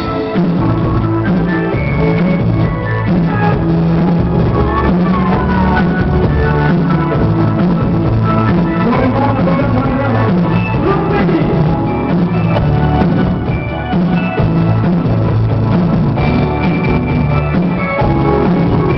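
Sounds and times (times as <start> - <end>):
rock band music: 0.0 - 18.9.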